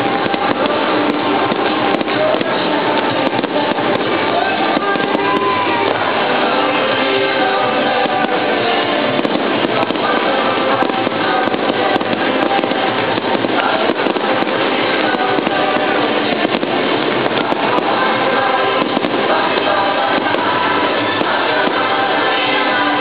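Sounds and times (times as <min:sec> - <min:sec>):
fireworks bursting: 0:00.0 - 0:23.0
fireworks crackle: 0:00.0 - 0:23.0
music playing: 0:00.0 - 0:23.0.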